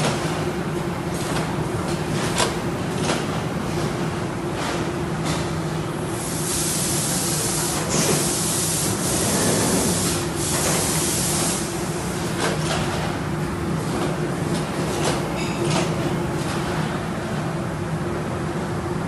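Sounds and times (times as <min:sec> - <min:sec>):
printing machine humming: 0:00.0 - 0:19.0.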